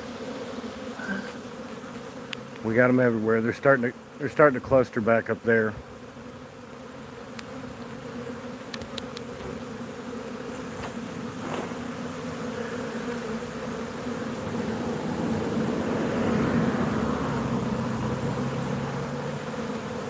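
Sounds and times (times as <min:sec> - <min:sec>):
bee swarm buzzing: 0:00.0 - 0:20.0.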